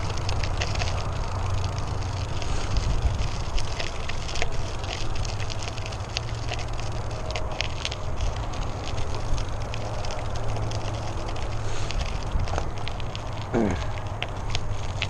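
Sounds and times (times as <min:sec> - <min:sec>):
bike tyres rumbling on dirt trail: 0:00.0 - 0:15.0
grit crackling under wheels: 0:00.0 - 0:15.0.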